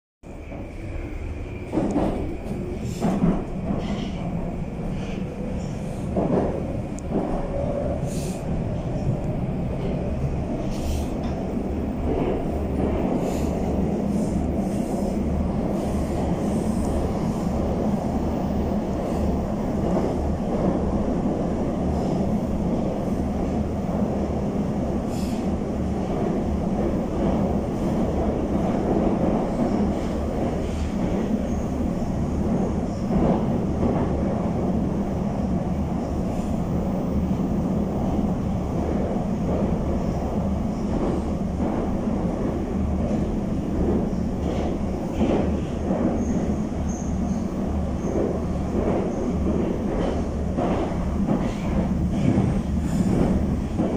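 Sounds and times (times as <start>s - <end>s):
train rumbling through tunnel: 0.2s - 53.9s.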